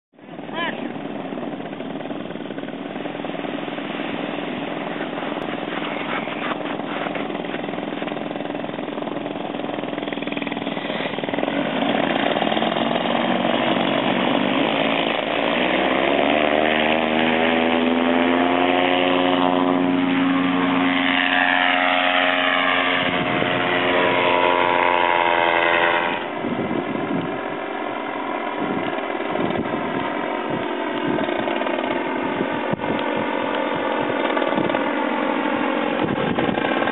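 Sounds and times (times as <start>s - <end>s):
paramotor engine running: 0.2s - 36.9s.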